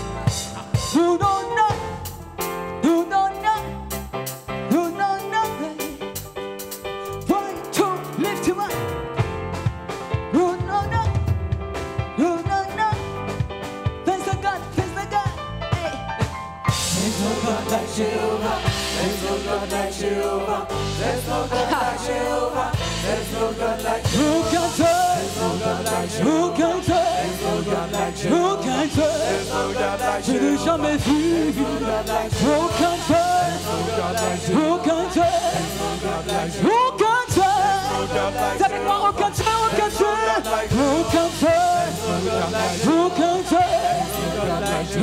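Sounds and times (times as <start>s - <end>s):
gospel band playing: 0.0s - 45.0s.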